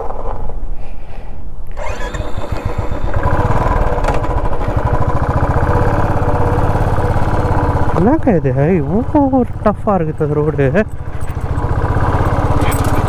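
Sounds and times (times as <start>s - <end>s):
motorcycle engine under load: 1.7s - 13.0s.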